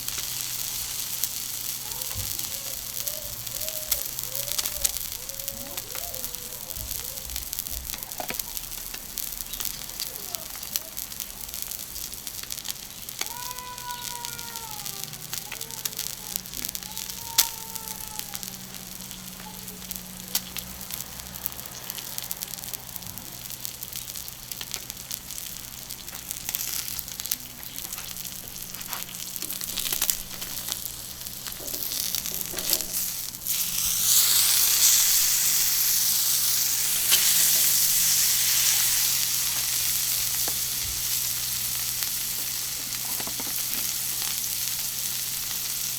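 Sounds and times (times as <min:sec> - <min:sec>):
steak sizzling on a griddle: 0:00.0 - 0:45.9.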